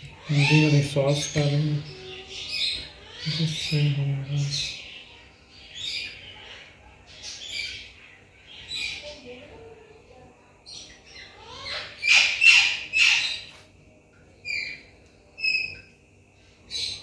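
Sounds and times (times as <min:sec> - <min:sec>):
birds chirping: 0:00.0 - 0:09.5, 0:10.5 - 0:17.0.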